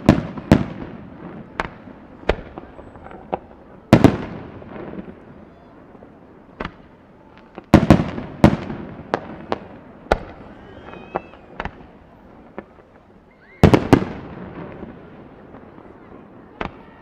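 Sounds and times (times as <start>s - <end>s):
fireworks bursting with echo: 0.0s - 17.0s.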